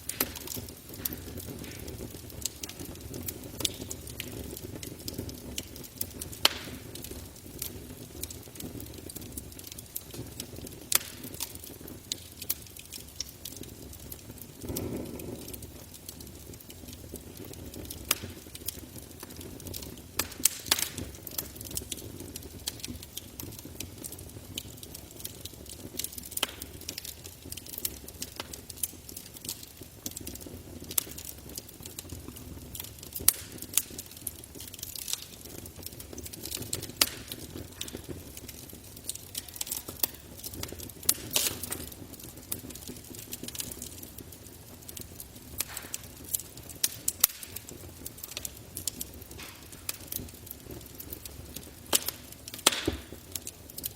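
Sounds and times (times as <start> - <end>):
flame rushing: 0.0 - 53.9
wood crackling and popping: 0.0 - 53.9.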